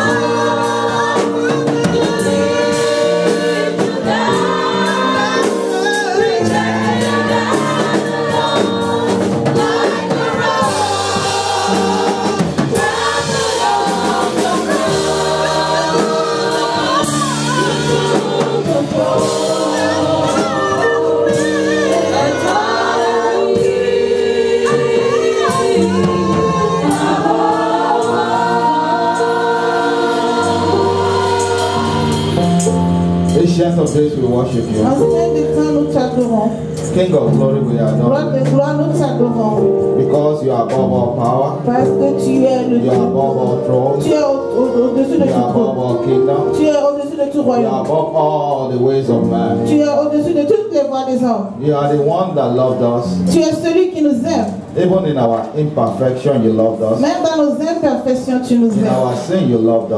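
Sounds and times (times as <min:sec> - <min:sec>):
group singing worship song: 0:00.0 - 0:59.9.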